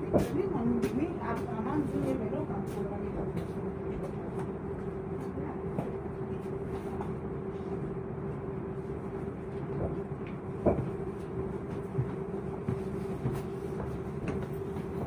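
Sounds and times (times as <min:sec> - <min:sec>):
train hum: 0:00.0 - 0:15.0.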